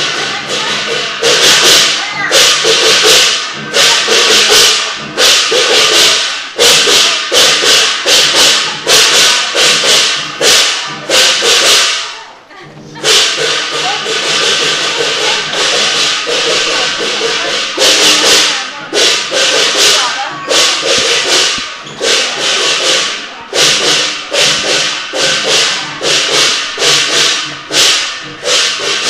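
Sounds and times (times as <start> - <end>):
cymbals crashing: 0.0 - 29.0
drum beat: 0.0 - 29.0.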